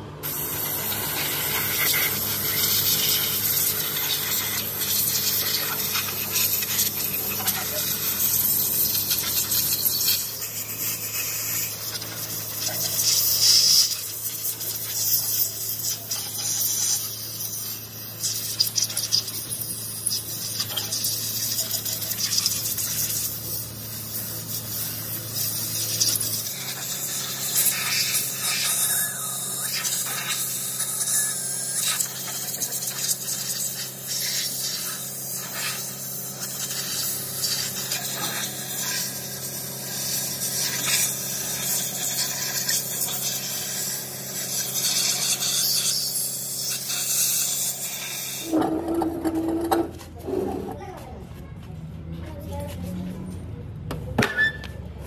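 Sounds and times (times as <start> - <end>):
compressed air blow gun hissing: 0.2 - 49.3.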